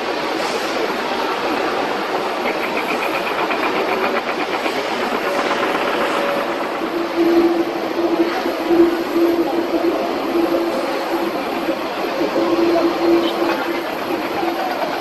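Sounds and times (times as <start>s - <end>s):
steady jet engine noise: 0.0s - 15.0s.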